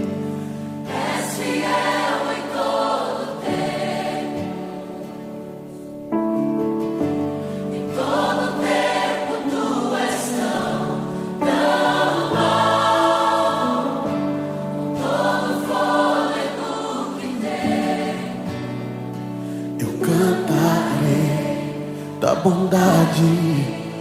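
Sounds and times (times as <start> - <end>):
choir singing with instruments: 0.0 - 5.9, 7.5 - 24.0.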